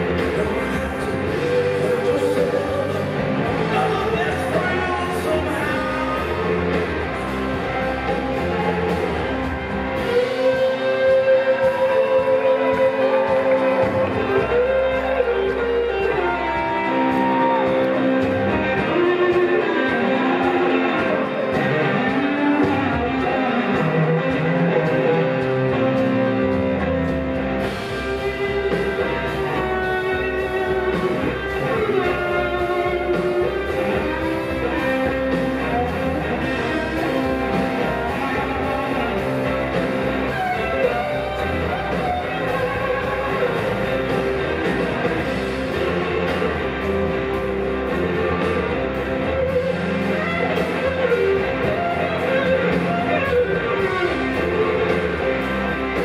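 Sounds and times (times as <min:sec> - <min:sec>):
drums: 0:00.0 - 0:56.0
electric guitars: 0:00.0 - 0:56.0.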